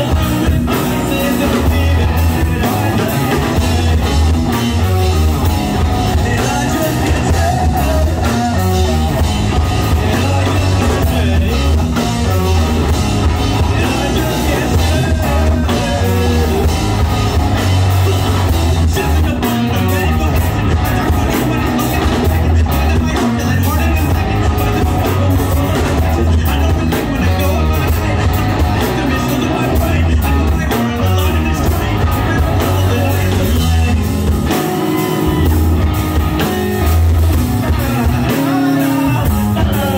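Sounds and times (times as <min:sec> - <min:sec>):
person singing into a microphone: 0:00.0 - 0:05.0, 0:05.8 - 0:36.5, 0:37.4 - 0:39.9
drum kit: 0:00.0 - 0:39.9
electric bass: 0:00.0 - 0:39.9
electric guitar: 0:00.0 - 0:39.9.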